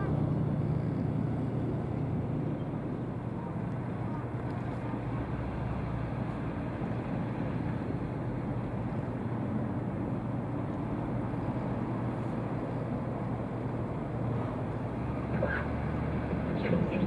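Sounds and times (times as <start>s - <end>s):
bow wave rushing along hull: 0.0s - 17.0s
ship engines droning: 0.0s - 17.0s.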